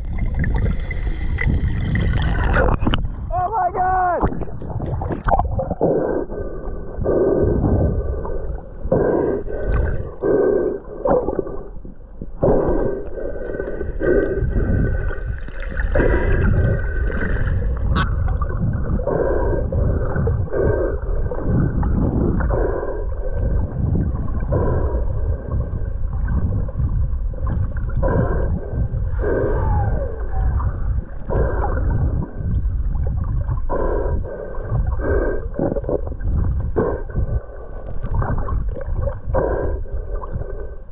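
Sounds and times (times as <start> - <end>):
low rumble of water noise: 0.0 - 40.9.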